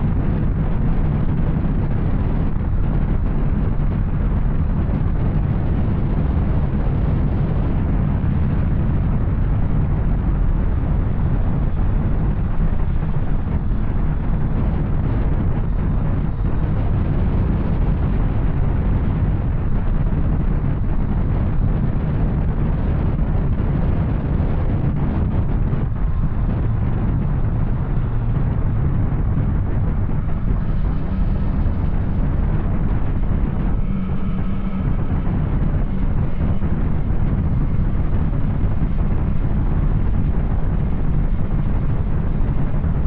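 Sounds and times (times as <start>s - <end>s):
motorcycle engine exhaust rumble: 0.0s - 43.0s.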